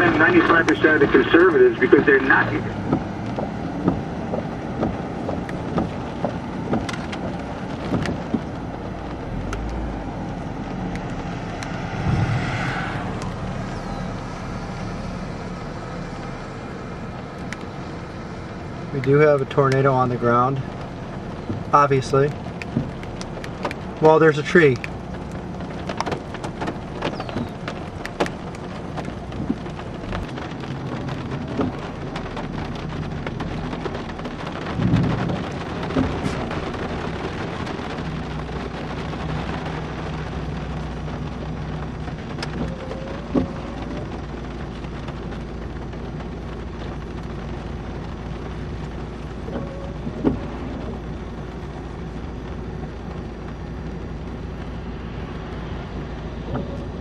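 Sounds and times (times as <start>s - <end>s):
thunder rumble: 0.0s - 19.0s, 20.0s - 57.0s
heavy rain on a car: 0.0s - 57.0s
road and engine hum: 0.0s - 57.0s.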